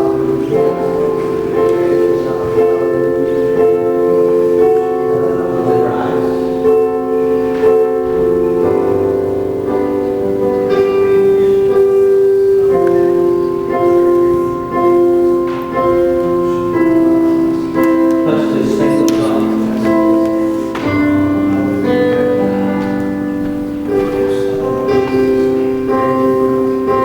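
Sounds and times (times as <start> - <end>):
soft keyboard chords: 0.0 - 27.0.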